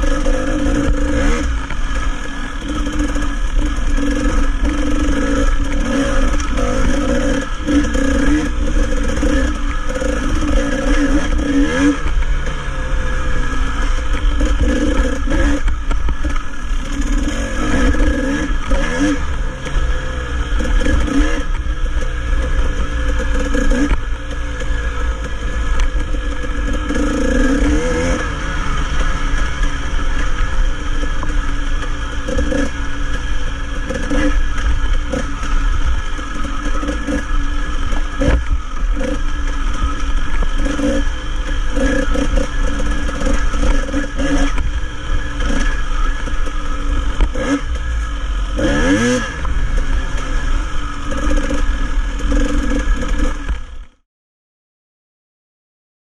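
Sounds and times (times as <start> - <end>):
wind rumble: 0.0 - 53.7
dirt bike engine revving: 0.0 - 54.0.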